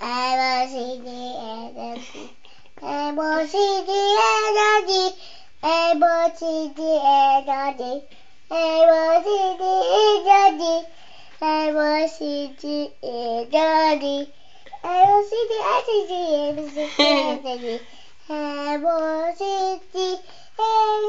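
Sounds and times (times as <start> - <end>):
boy singing: 0.0 - 21.0.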